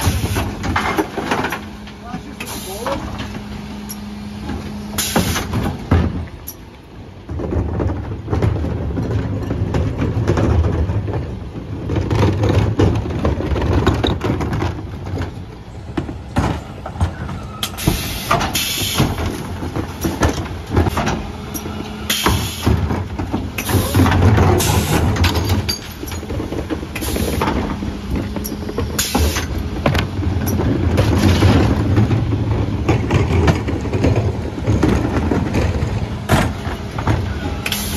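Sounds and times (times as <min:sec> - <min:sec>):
knocks and clatter: 0:00.0 - 0:37.9
refuse truck engine under load: 0:00.0 - 0:37.9.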